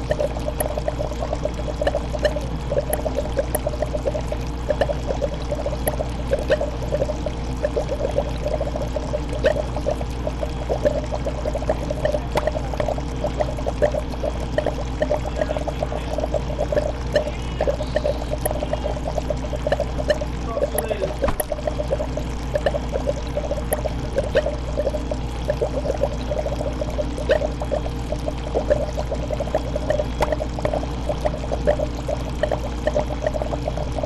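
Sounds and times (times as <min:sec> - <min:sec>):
aquarium water bubbling: 0:00.0 - 0:34.0
low hum: 0:00.0 - 0:34.0.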